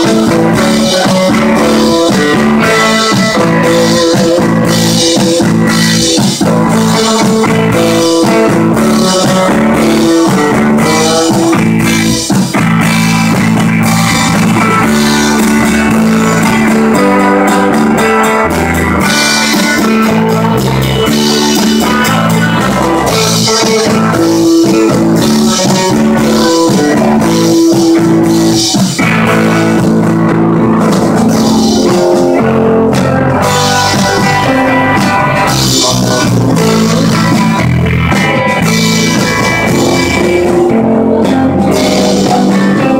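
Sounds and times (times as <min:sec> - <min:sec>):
bass guitar: 0:00.0 - 0:42.9
drum kit: 0:00.0 - 0:42.9
electric guitars: 0:00.0 - 0:42.9.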